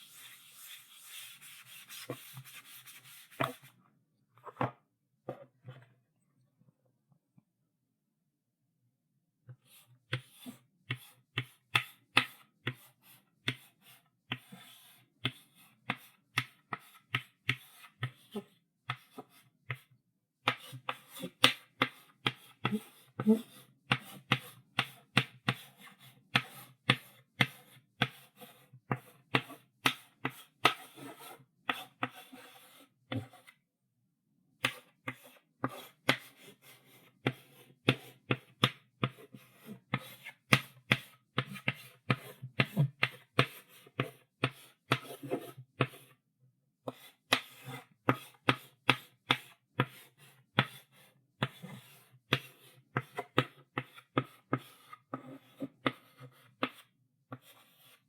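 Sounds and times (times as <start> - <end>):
chalk writing on a chalkboard: 0.0 - 3.7, 9.5 - 33.6, 34.6 - 46.2, 46.8 - 58.0.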